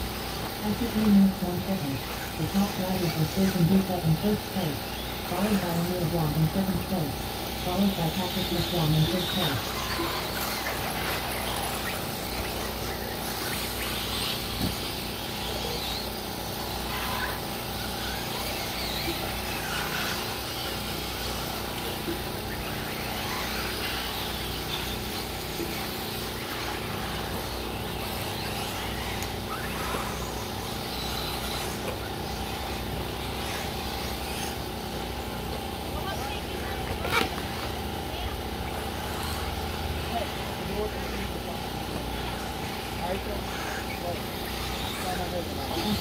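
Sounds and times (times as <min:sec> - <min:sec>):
outdoor background noise: 0:00.0 - 0:46.0
rc car motors whining: 0:00.0 - 0:46.0.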